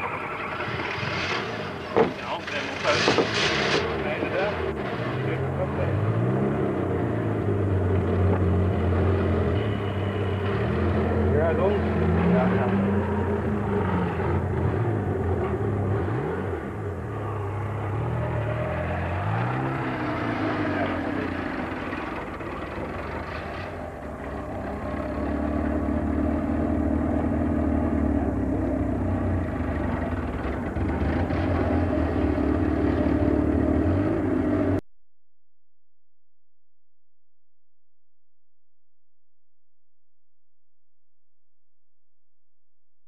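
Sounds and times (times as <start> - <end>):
engine running: 0.0 - 34.8.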